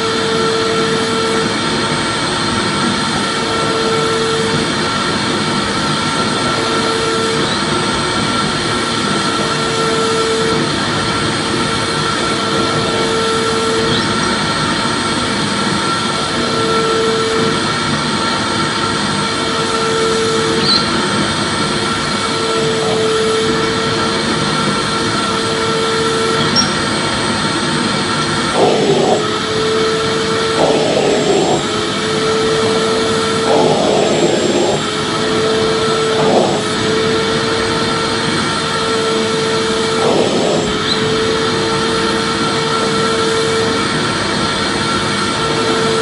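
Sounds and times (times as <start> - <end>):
vacuum cleaner running: 0.0 - 46.0.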